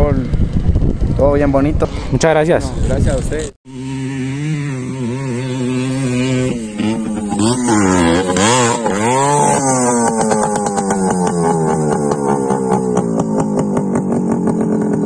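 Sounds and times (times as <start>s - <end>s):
dirt bike engine revving: 1.8s - 15.0s.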